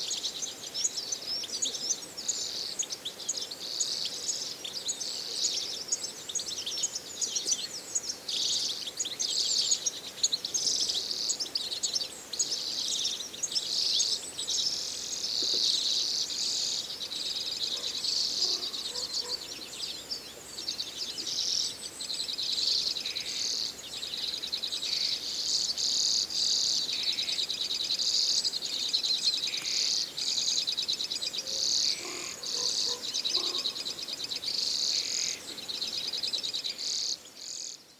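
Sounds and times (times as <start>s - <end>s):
flock of songbirds twittering: 0.0s - 37.9s.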